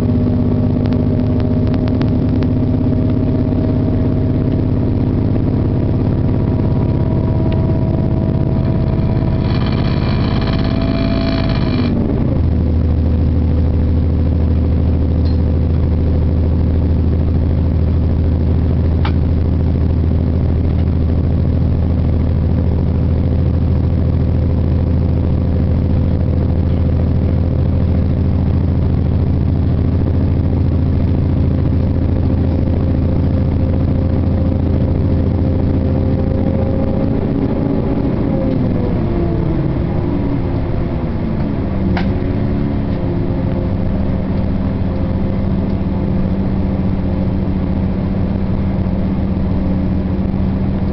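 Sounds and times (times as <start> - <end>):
high whine: 0.0 - 50.9
train rumble with engine hum: 0.0 - 50.9.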